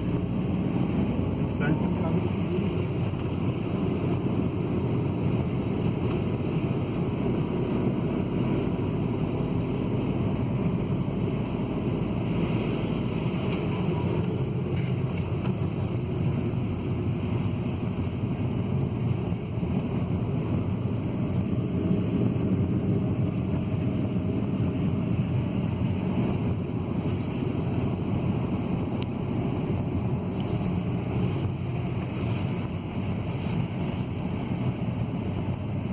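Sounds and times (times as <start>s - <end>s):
car engine and tyre rumble: 0.0s - 35.9s.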